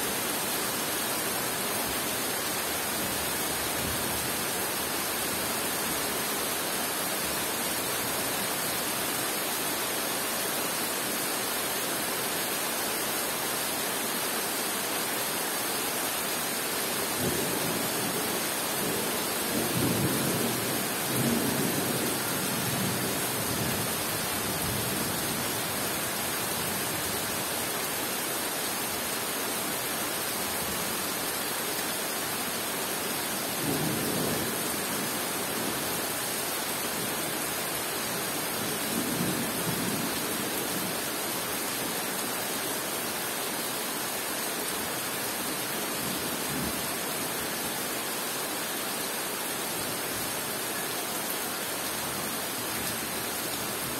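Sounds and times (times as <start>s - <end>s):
heavy rain on foliage: 0.0s - 53.9s.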